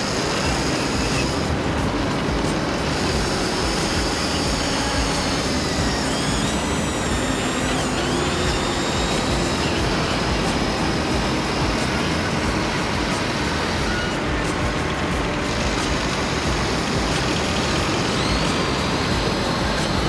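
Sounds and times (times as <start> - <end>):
engine noise: 0.0 - 20.0
thin high whine: 0.0 - 20.0.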